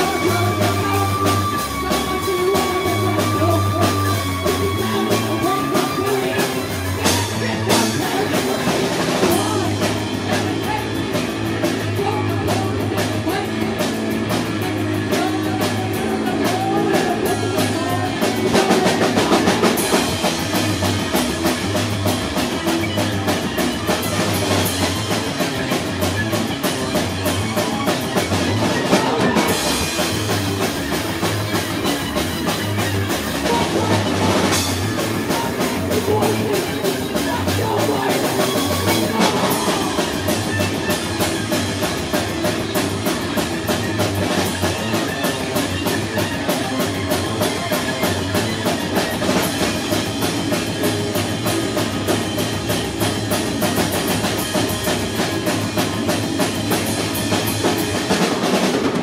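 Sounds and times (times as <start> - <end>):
live rock band playing loudly: 0.0 - 59.0.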